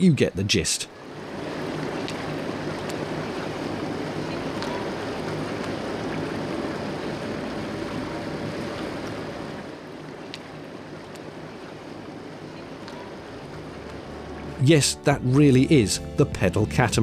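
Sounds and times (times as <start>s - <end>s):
boat engine humming: 0.0s - 17.0s
water and wind noise: 0.0s - 17.0s.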